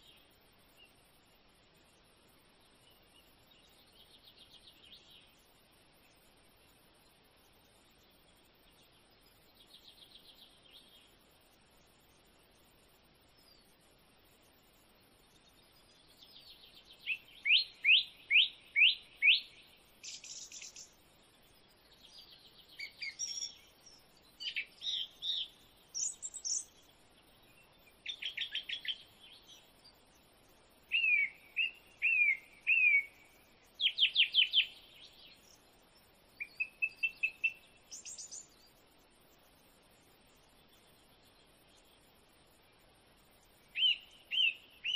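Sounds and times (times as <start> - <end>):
bird chirping song: 0.0 - 44.9.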